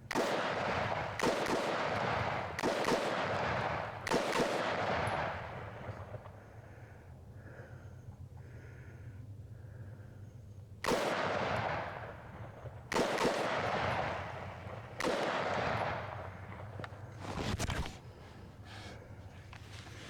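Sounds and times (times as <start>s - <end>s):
rifle shots with rolling echo: 0.0s - 9.8s, 10.7s - 17.3s.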